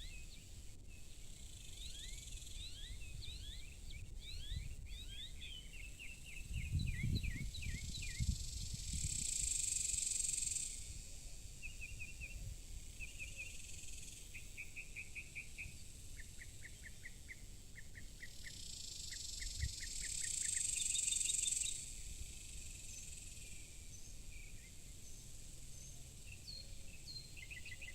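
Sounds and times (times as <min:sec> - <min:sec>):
small birds chirping: 0:00.0 - 0:27.9
high insect buzz: 0:01.1 - 0:03.7, 0:06.0 - 0:27.9.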